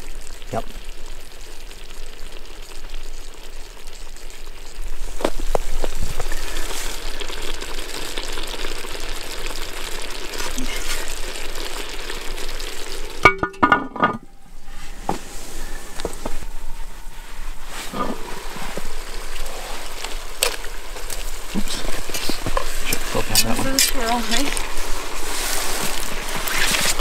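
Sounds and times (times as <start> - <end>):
meat and sauce sizzling in pot: 0.0 - 27.0.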